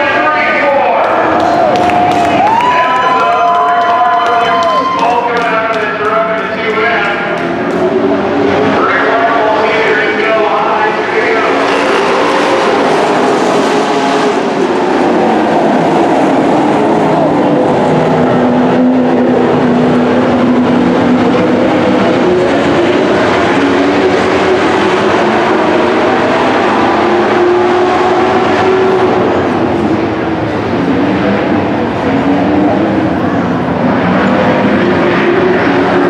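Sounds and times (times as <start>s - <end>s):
race truck engines running hard: 0.0s - 36.0s.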